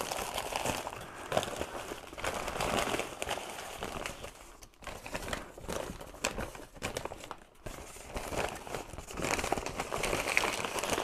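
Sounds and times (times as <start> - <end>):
paper bags rustling and crinkling: 0.0 - 11.0.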